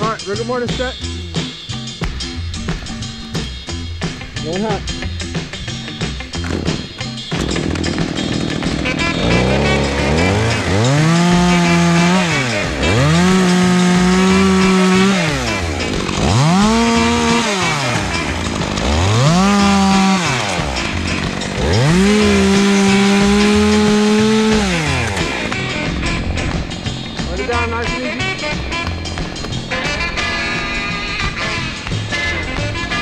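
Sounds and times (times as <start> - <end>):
chainsaw revving and cutting wood: 0.0 - 33.0.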